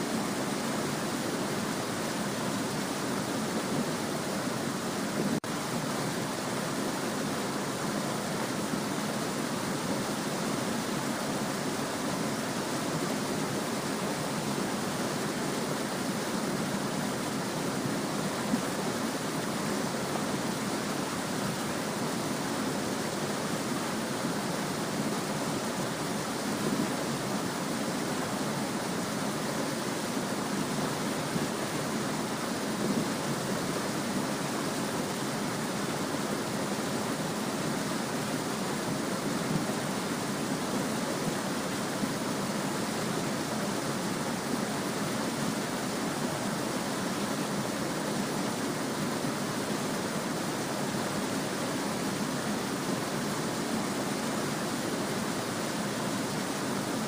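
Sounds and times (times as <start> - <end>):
small stream babbling: 0.0 - 57.0.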